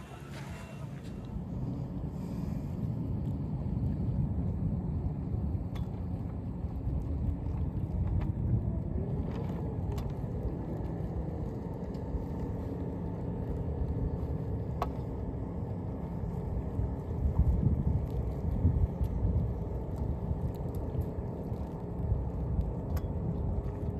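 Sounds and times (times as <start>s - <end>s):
distant engine drone: 0.0s - 23.9s
wind on microphone: 0.0s - 23.9s.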